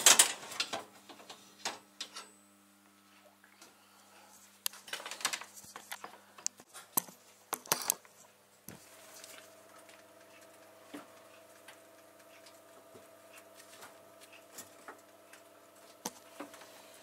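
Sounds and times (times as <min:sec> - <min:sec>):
faint electric oven hum: 0:00.0 - 0:17.0.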